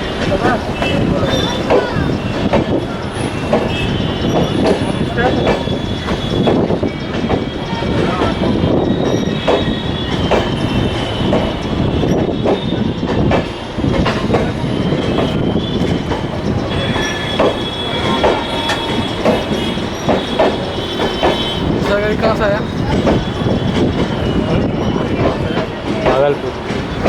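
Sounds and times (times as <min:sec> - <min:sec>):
high wheel squeal: 0:00.0 - 0:27.0
train wheels knocking over rail joints: 0:00.0 - 0:27.0.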